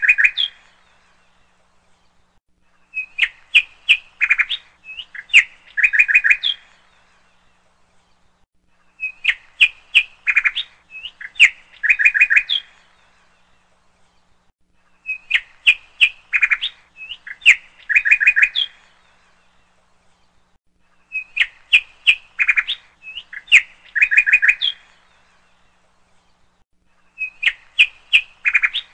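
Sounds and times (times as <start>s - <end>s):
songbird chirps and trill: 0.0s - 28.9s.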